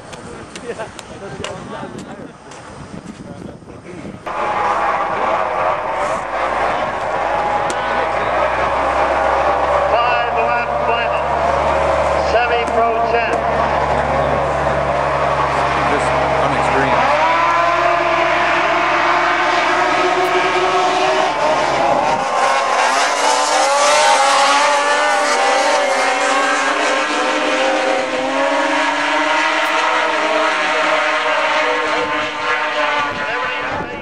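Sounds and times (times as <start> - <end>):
snowmobile engines at full throttle: 3.9 - 34.0.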